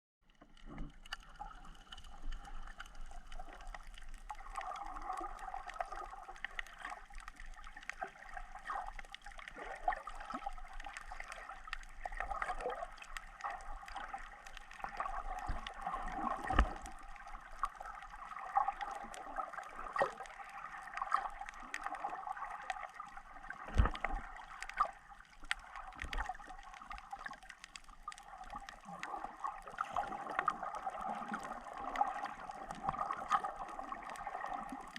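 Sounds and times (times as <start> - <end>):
water gurgling and sloshing: 0.2 - 34.9
small clicks: 0.3 - 34.9.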